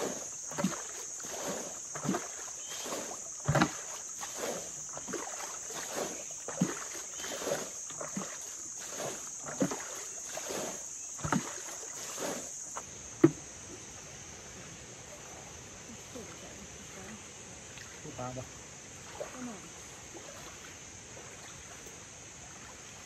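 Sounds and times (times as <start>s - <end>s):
high insect drone: 0.0s - 23.0s
water splashing and sloshing: 0.0s - 23.0s.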